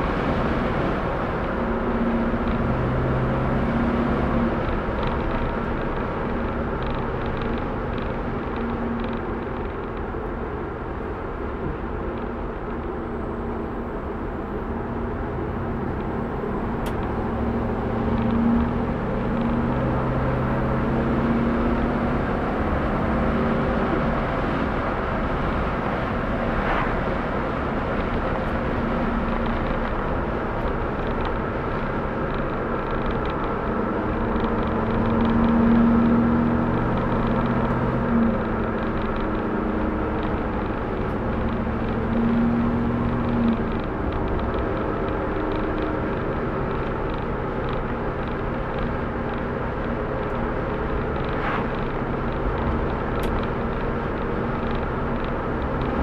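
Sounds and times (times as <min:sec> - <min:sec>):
car engine hum: 0:00.0 - 0:56.0
tyres on road: 0:00.0 - 0:56.0.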